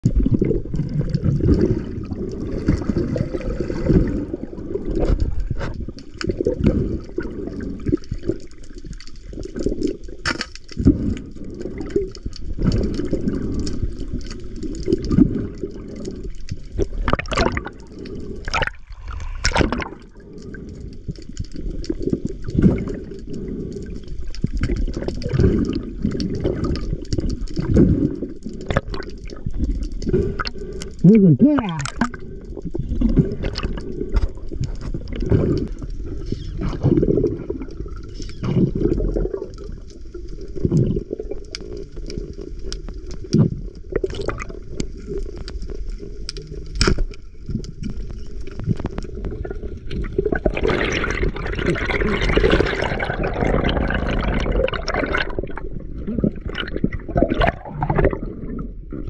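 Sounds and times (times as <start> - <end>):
muffled underwater water wash: 0.0 - 59.0.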